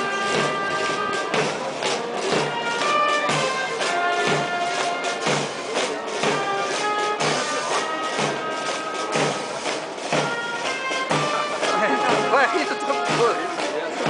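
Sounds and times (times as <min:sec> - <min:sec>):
brass band playing a march: 0:00.0 - 0:14.0.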